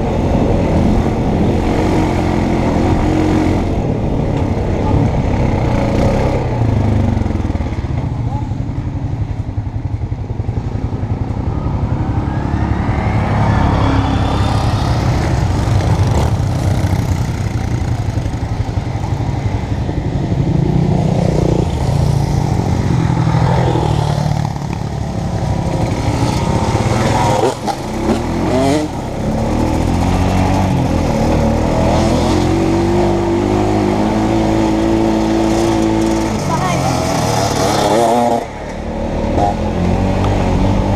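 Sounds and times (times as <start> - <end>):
atv engine revving: 0.0 - 8.0, 11.3 - 19.0, 20.2 - 40.9.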